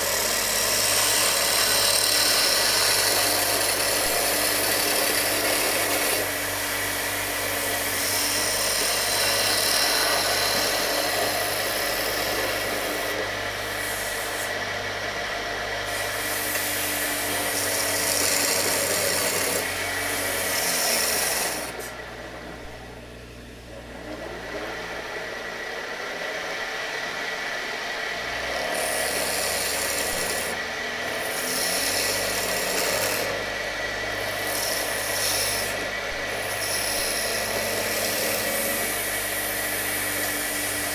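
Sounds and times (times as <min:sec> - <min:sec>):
tool scraping wood: 0:00.0 - 0:22.8, 0:28.0 - 0:40.9
lathe motor hum: 0:00.0 - 0:40.9.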